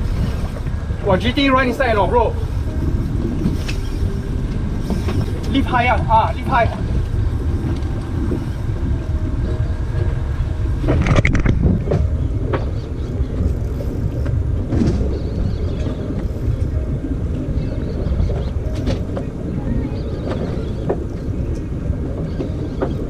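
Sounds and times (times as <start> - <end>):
water washing around boat: 0.0 - 23.0
wind buffeting microphone: 0.0 - 23.0.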